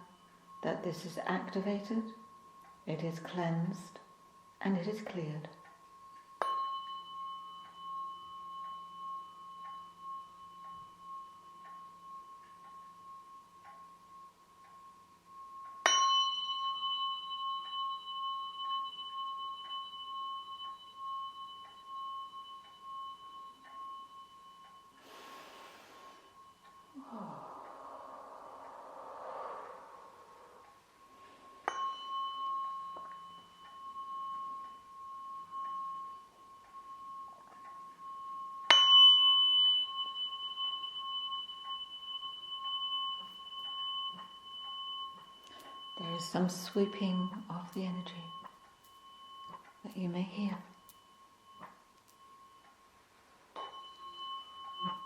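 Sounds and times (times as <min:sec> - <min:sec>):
singing bowl ringing: 0:00.0 - 0:55.0.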